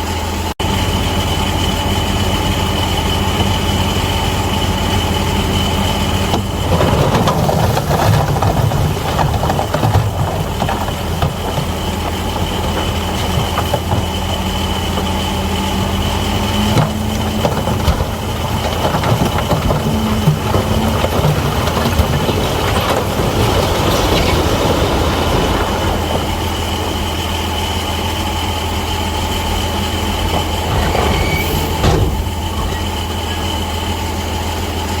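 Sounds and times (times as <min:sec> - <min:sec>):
bulldozer diesel engine running: 0:00.0 - 0:35.0
tracks and blade clanking: 0:02.8 - 0:34.0.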